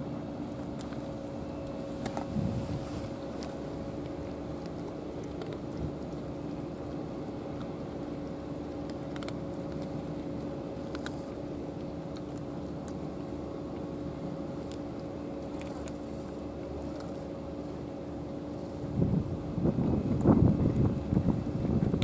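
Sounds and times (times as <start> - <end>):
cats crunching dry kibble: 0.0 - 22.0
steady low hum: 0.0 - 22.0.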